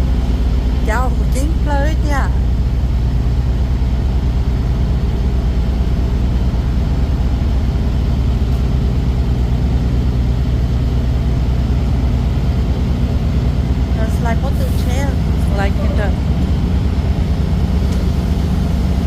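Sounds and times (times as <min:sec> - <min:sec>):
road noise: 0:00.0 - 0:19.0
truck engine rumble: 0:00.0 - 0:19.0.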